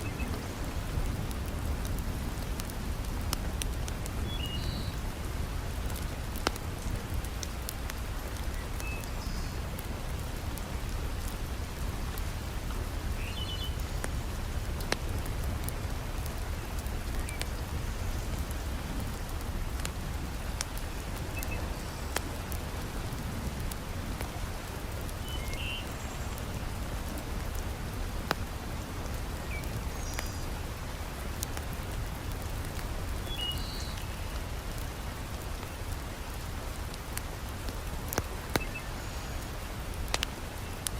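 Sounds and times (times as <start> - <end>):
heavy rain hissing: 0.0 - 40.9
log fire crackling pops: 0.0 - 40.9.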